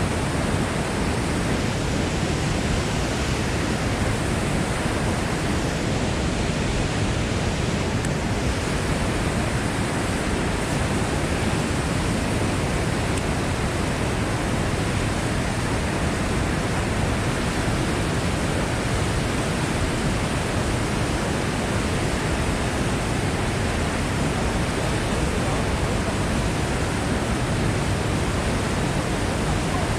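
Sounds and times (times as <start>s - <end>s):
rushing white water: 0.0s - 29.9s.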